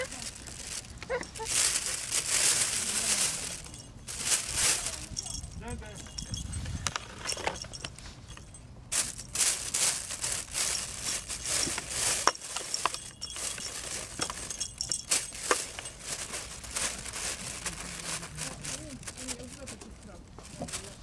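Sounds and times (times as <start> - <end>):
crinkling of plastic bag: 0.0 - 21.0.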